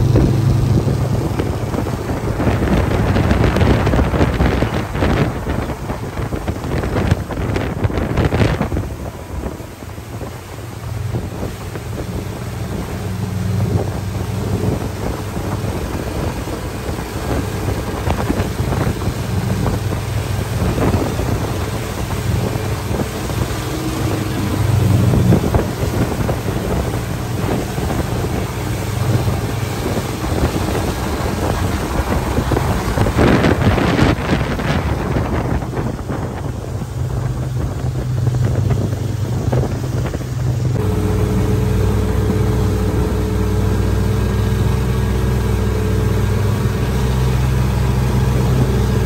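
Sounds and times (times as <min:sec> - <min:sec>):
outboard motor drone: 0:00.0 - 0:49.0
rushing water from wake: 0:00.0 - 0:49.0
wind buffeting microphone: 0:00.0 - 0:49.0.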